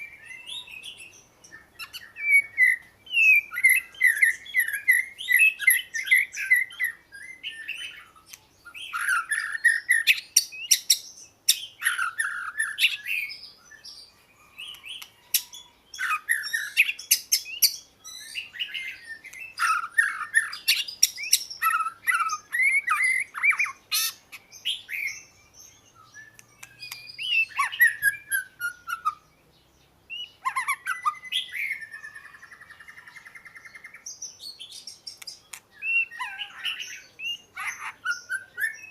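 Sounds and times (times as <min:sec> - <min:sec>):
magpie-robin singing: 0:00.0 - 0:38.9.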